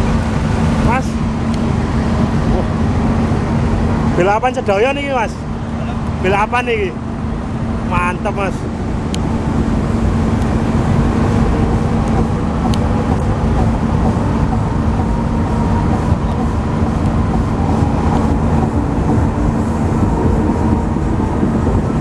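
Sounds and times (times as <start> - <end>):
large engine running: 0.0 - 22.0.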